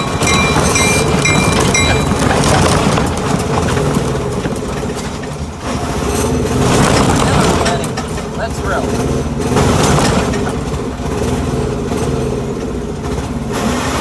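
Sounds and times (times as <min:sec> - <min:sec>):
ride-on train rumbling: 0:00.0 - 0:14.0.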